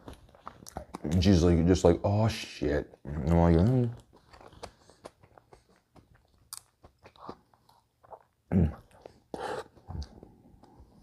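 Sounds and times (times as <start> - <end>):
chewing with wet mouth clicks: 0.0 - 1.3, 2.9 - 10.8.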